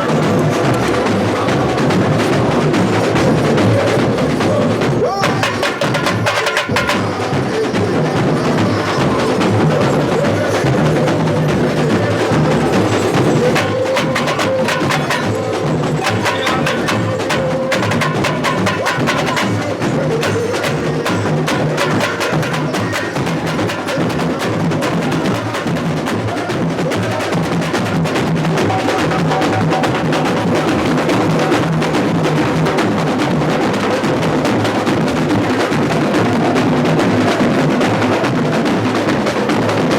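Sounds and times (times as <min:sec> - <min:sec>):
bass drums: 0:00.0 - 0:39.9
hand percussion: 0:00.0 - 0:39.9
snare drums: 0:00.0 - 0:39.9.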